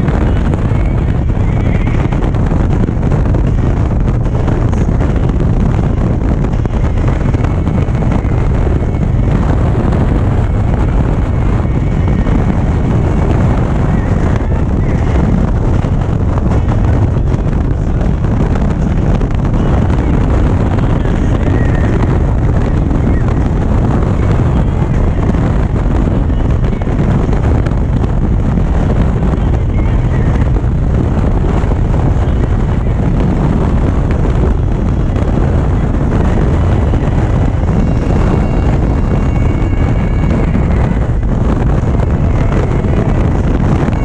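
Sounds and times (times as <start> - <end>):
motorcycle engine cruising: 0.0 - 44.0
wind rushing over microphone: 0.0 - 44.0.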